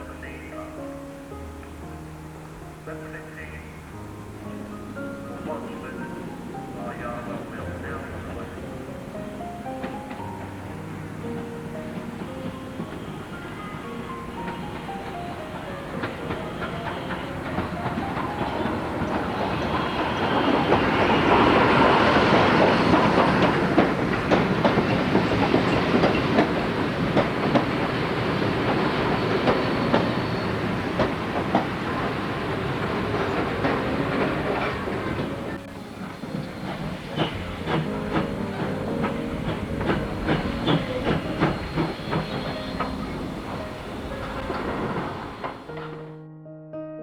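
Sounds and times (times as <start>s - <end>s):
train wheels clicking over rail joints: 4.3s - 46.1s.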